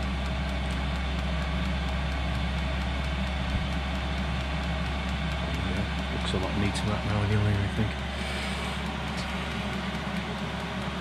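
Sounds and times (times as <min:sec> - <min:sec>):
air heater humming: 0:00.0 - 0:11.0.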